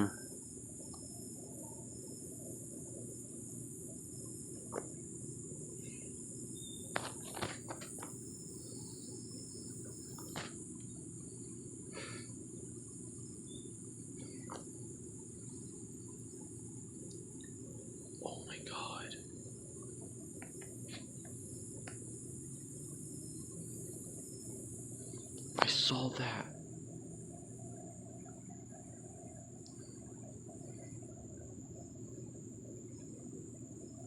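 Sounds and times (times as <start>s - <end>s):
crickets chirring: 0.0s - 34.0s
low even hiss: 0.0s - 34.0s.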